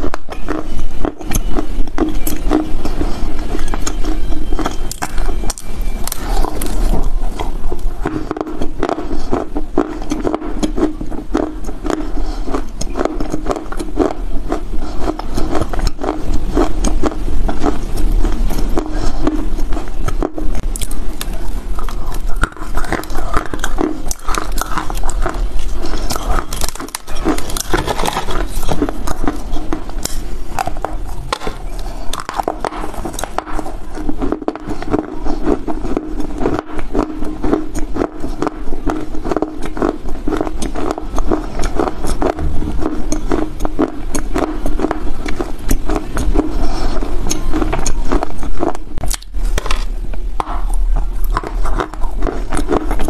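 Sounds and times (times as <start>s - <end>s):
chewing crunchy clay: 0.0s - 53.0s.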